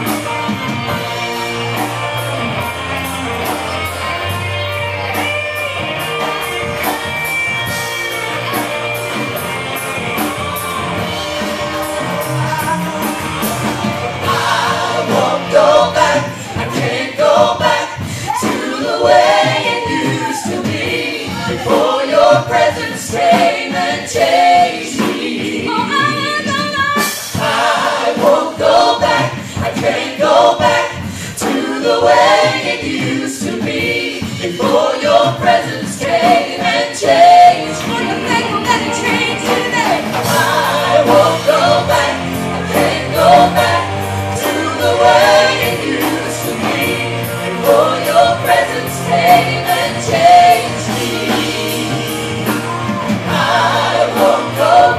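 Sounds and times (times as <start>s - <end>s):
bass guitar: 0.0s - 54.9s
drums: 0.0s - 54.9s
group of singers: 0.0s - 54.9s
keyboard: 0.0s - 54.9s.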